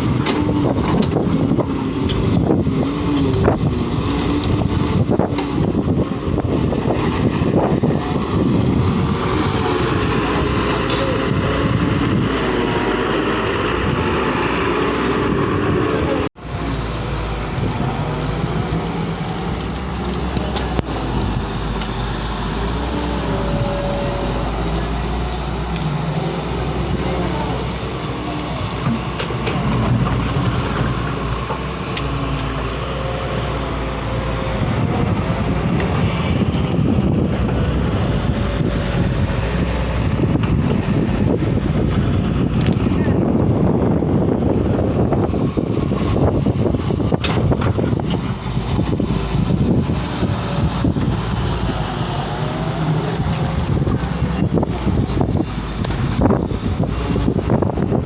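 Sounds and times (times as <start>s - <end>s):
diesel engine rumbling under load: 0.0s - 58.0s
wind buffeting microphone: 0.0s - 58.0s.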